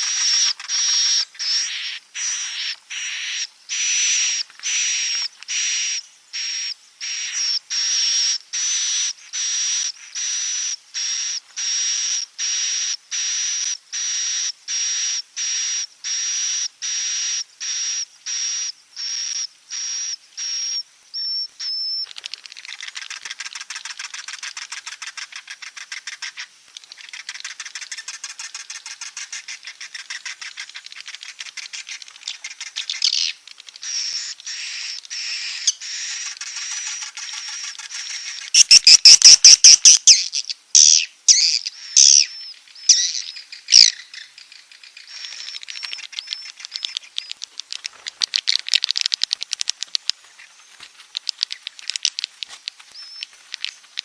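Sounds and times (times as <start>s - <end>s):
fast buzzy twittering: 0.0s - 54.0s.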